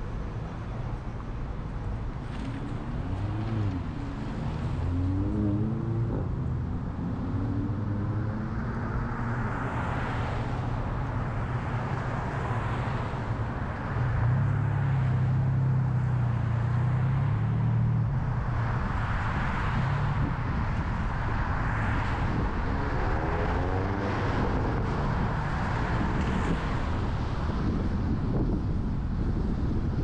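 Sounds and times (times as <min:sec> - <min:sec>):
car engine drone: 0:00.0 - 0:30.0
road noise: 0:00.0 - 0:30.0.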